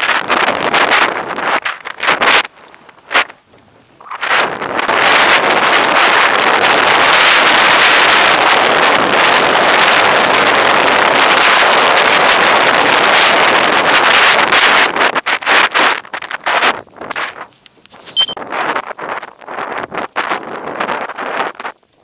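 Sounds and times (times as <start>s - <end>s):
wind rushing on microphone: 0.0s - 22.0s.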